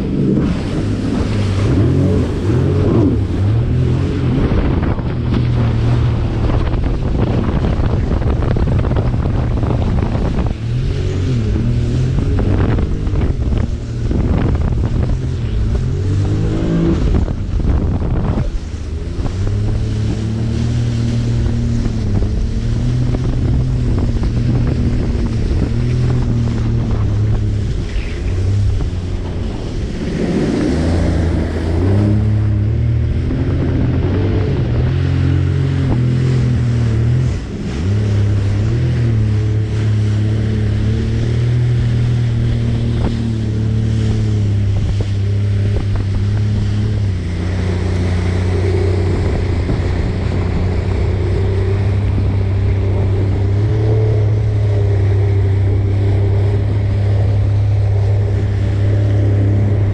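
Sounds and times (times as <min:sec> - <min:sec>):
jet ski engine running: 0:00.0 - 0:59.9
water rushing past: 0:00.0 - 0:59.9
wind on microphone: 0:00.0 - 0:59.9.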